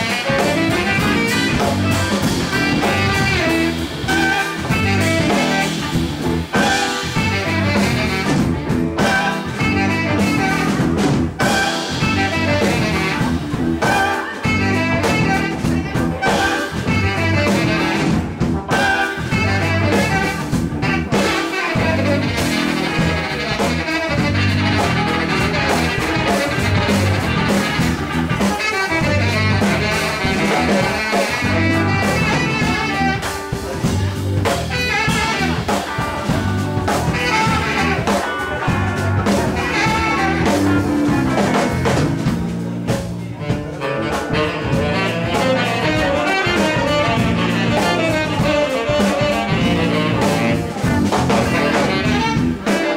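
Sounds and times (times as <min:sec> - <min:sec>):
drum kit: 0:00.0 - 0:52.9
electric guitar: 0:00.0 - 0:52.9
saxophone: 0:00.0 - 0:52.9.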